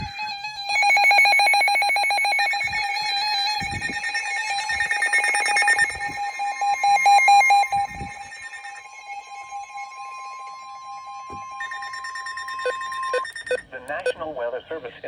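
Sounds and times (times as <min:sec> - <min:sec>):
rapid electronic alarm beeping: 0:00.0 - 0:14.2
steady alert tone: 0:00.0 - 0:14.2.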